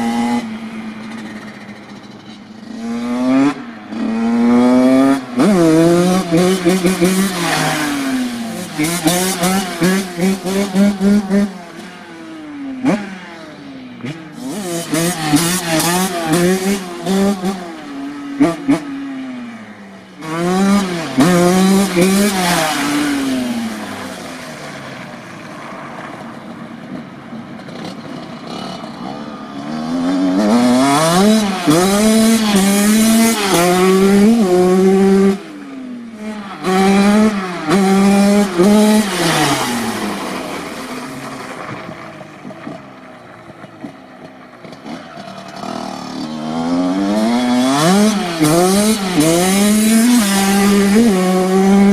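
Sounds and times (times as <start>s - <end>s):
two-stroke motorcycle engine revving: 0.0s - 25.1s, 26.8s - 51.9s.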